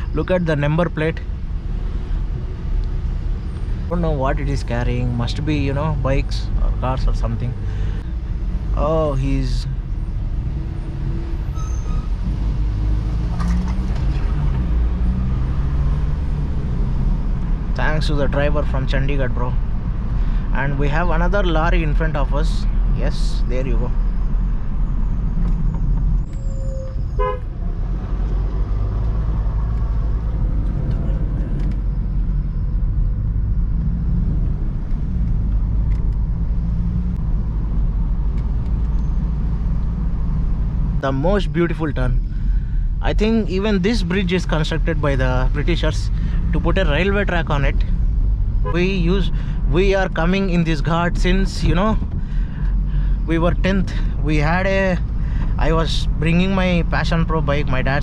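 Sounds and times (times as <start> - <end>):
car driving on road: 0.0 - 58.0.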